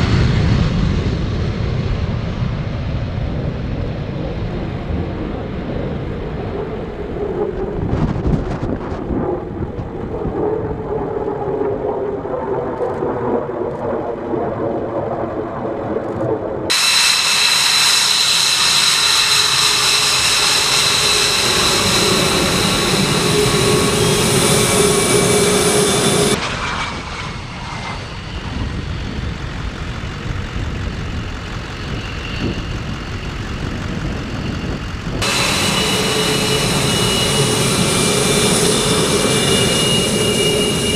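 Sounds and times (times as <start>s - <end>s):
jet taking off rumble: 0.0s - 40.9s
jet turbine whine: 0.0s - 40.9s
jet afterburner rumble: 4.2s - 40.9s.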